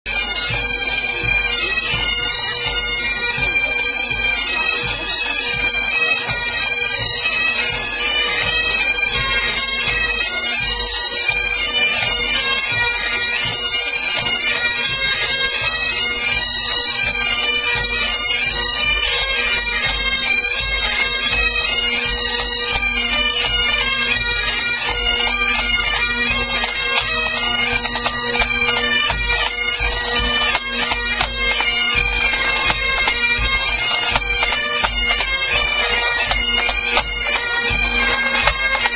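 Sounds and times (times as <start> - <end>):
pipe band bagpipes playing: 0.1 - 38.9.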